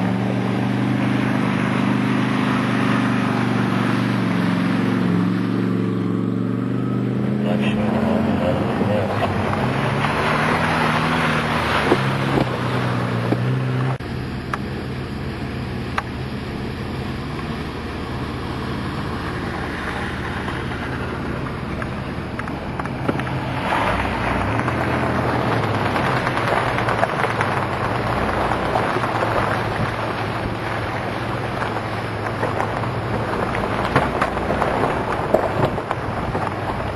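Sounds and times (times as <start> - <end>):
rushing noise: 0.0 - 36.9
truck engine running: 0.0 - 36.9.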